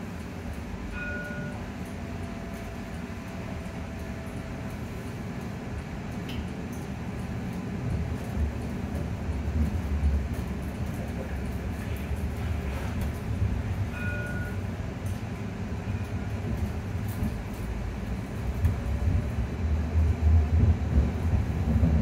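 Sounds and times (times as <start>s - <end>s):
tram running gear rumbling: 0.0s - 22.0s.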